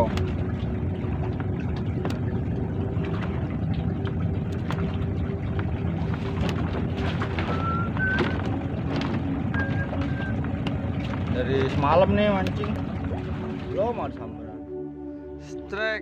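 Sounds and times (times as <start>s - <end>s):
motor droning: 0.0s - 15.4s.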